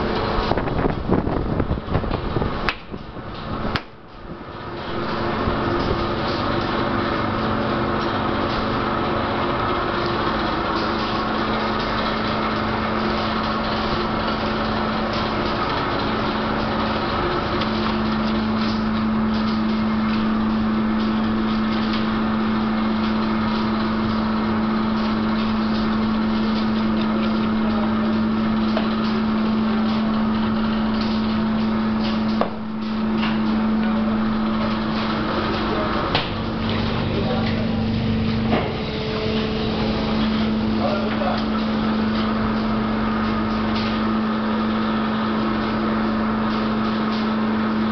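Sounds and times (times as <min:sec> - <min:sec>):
boat engine humming: 0:02.7 - 0:47.9.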